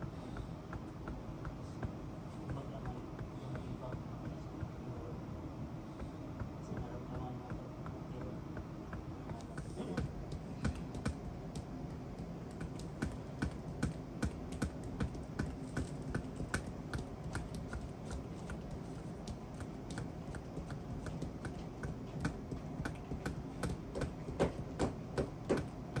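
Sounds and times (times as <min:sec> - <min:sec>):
massage hammers tapping on foot: 0:00.0 - 0:04.8, 0:05.9 - 0:26.0.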